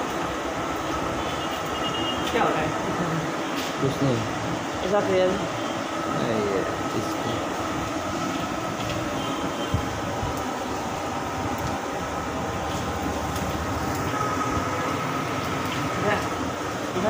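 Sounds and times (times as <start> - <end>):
food deep-frying in hot oil: 0.0 - 17.0.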